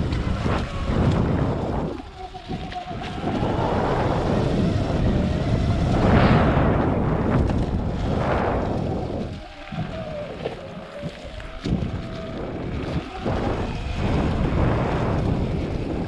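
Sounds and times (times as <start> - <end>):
electric motor whine: 0.0 - 16.0
wind buffeting microphone: 0.0 - 16.0.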